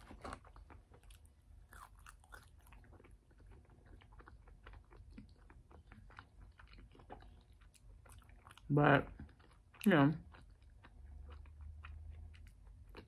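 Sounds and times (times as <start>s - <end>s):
chewing with wet mouth clicks: 0.2s - 13.0s.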